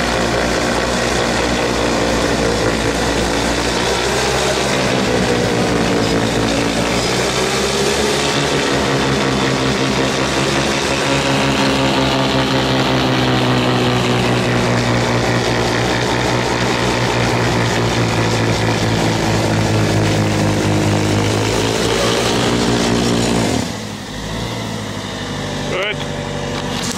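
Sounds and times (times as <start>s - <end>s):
tractor engine running under load: 0.0s - 26.9s.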